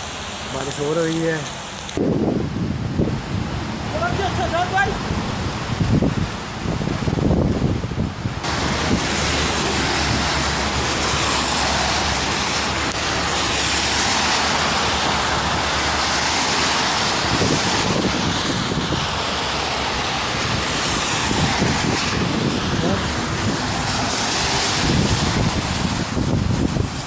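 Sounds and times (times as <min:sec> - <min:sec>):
heavy rain falling: 0:00.0 - 0:27.0
wind rumbling on microphone: 0:00.0 - 0:27.0.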